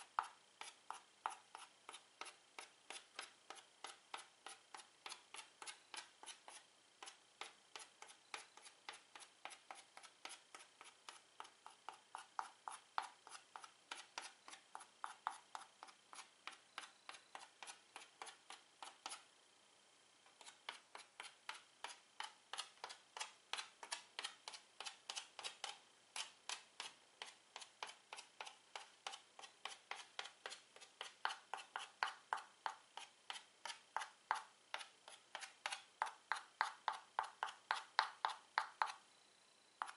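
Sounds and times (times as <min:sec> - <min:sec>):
chalk tapping on chalkboard: 0:00.0 - 0:19.2, 0:20.3 - 0:39.0.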